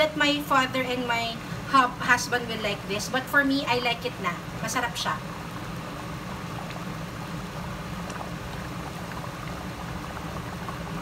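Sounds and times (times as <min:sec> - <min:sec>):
steady low hum: 0:00.0 - 0:11.0
stew bubbling in a pot: 0:00.0 - 0:11.0.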